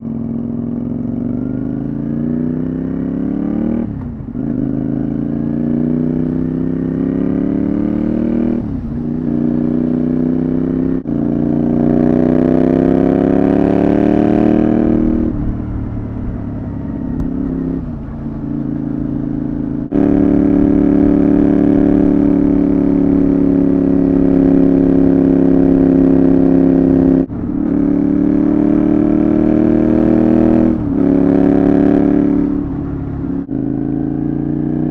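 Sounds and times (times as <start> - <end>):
motorcycle engine revving through gears: 0.0 - 34.9.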